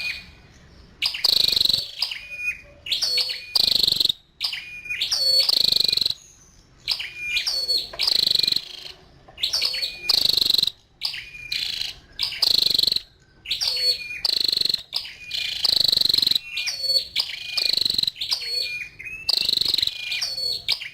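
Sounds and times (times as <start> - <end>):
bird calling high sharp calls: 0.0 - 20.9.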